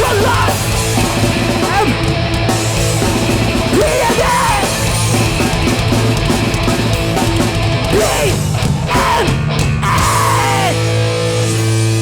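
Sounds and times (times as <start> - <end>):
bass guitar: 0.0 - 12.0
drums: 0.0 - 12.0
electric guitars: 0.0 - 12.0.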